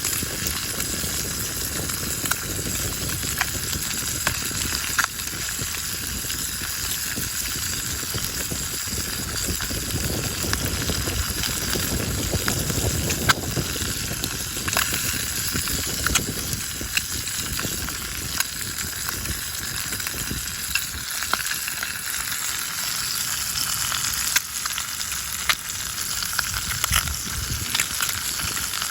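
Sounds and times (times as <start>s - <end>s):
fire pops and crackles: 0.0s - 28.9s
food sizzling in a pan: 0.0s - 28.9s.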